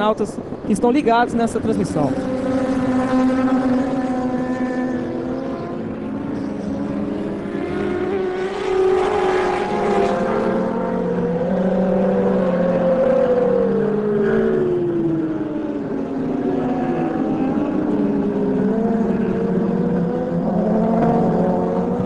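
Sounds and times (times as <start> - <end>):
racing motorbike engines revving: 0.0 - 22.0.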